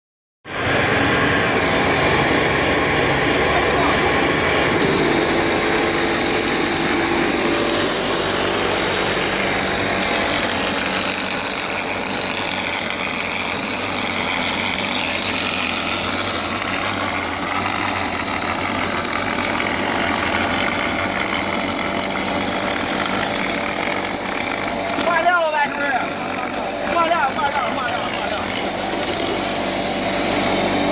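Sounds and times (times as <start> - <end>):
plaster machine motor droning: 0.5 - 30.9
spray gun hissing: 4.8 - 30.9.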